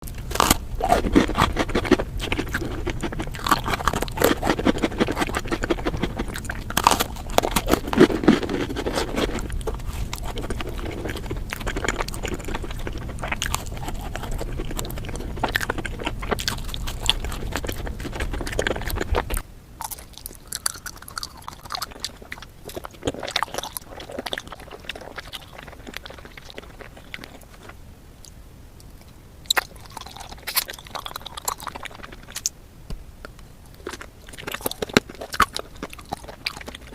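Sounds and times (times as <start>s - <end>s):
crunchy chewing of sweets: 0.0s - 32.6s, 33.2s - 36.9s
low background hum: 0.0s - 36.9s.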